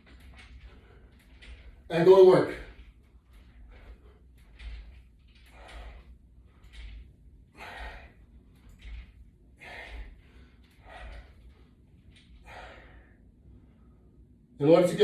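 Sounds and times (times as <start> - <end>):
man breathing hard in puffs: 0.0 - 1.9, 2.6 - 14.3.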